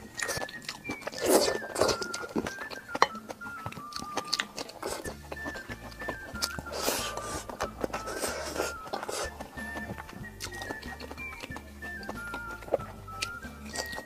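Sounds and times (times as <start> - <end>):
chewing: 0.0 - 14.0
soft background melody: 0.0 - 14.0.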